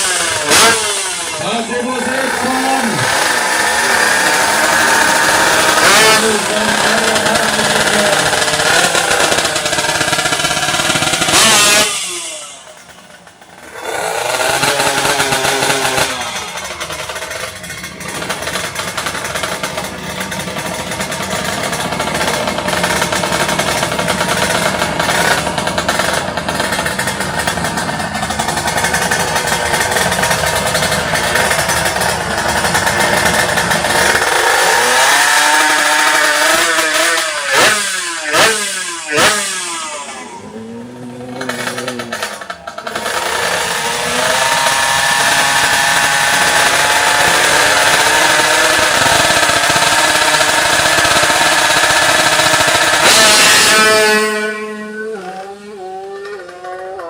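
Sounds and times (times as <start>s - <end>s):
two-stroke motorbikes revving: 0.0s - 57.0s.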